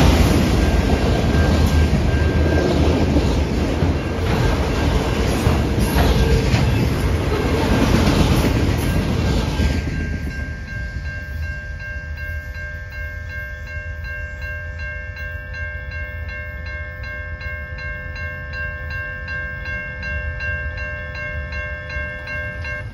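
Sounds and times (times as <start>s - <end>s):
crossing bell ringing: 0.0s - 22.9s
train rolling: 0.0s - 22.9s.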